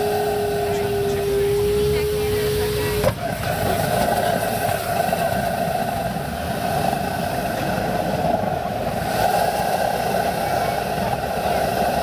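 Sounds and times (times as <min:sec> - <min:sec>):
steam car burner rushing: 0:00.0 - 0:12.0.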